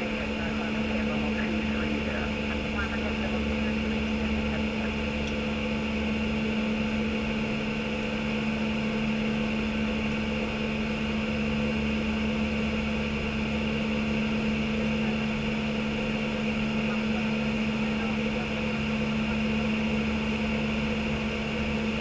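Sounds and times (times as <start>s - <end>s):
cockpit air and ventilation noise: 0.0s - 22.0s.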